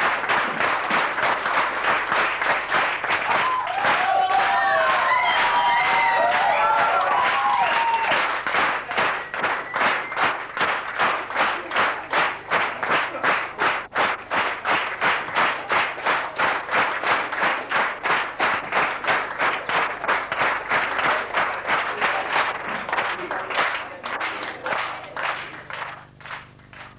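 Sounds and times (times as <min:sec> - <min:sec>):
audience clapping in unison: 0:00.0 - 0:26.9.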